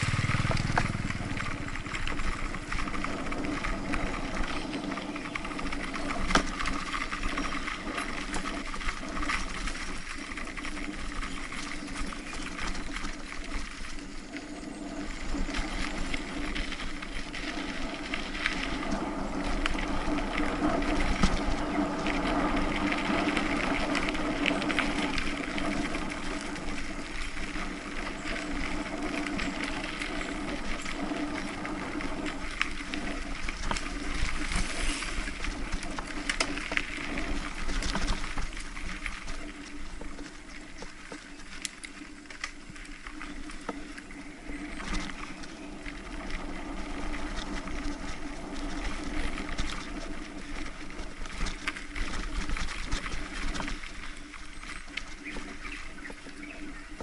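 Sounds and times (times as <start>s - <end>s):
bike knocking over rough ground: 0.0s - 14.2s, 15.1s - 57.0s
bike rattle and tyre noise: 0.0s - 57.0s.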